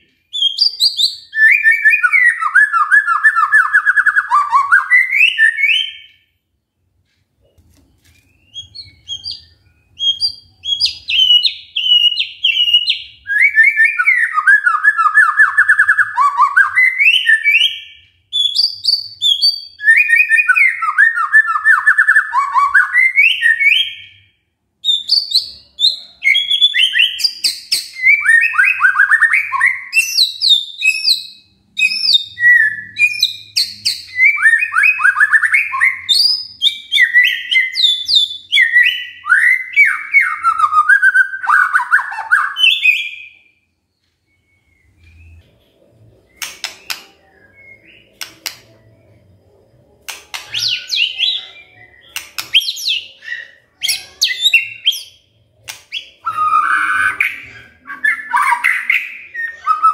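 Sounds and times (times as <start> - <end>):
bird singing trills and whistles: 0.0 - 6.3, 8.1 - 59.9.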